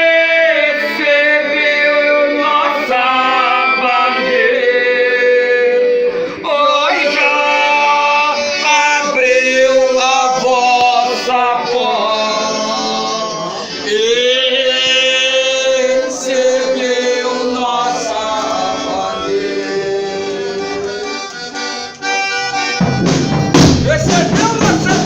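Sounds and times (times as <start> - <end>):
accordion: 0.0 - 25.0
voices holding long notes: 0.0 - 25.0.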